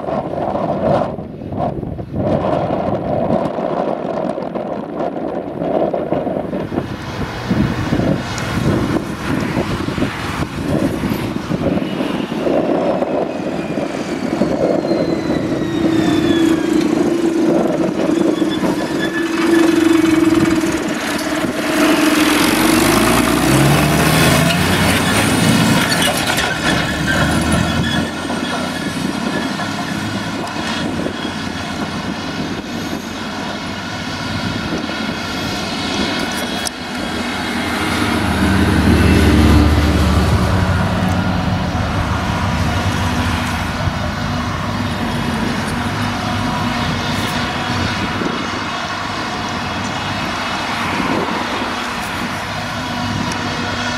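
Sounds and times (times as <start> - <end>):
tractor engine: 5.8 - 53.9
droning engine tone: 7.5 - 53.9.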